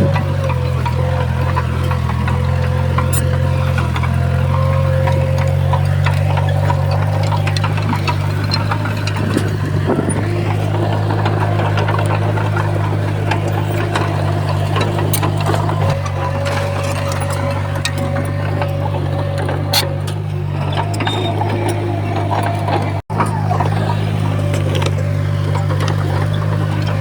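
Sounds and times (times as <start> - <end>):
bulldozer diesel engine running: 0.0 - 27.0
metal clanks and knocks: 0.0 - 27.0.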